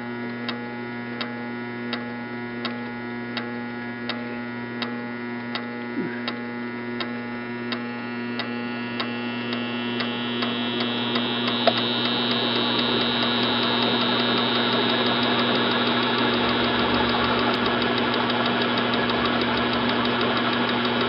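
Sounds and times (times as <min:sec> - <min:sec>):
electric motor hum and whir: 0:00.0 - 0:21.0.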